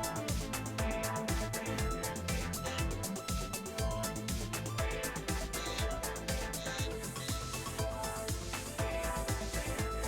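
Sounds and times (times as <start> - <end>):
background music: 0.0 - 10.0
low kick drum thumps: 0.0 - 10.0.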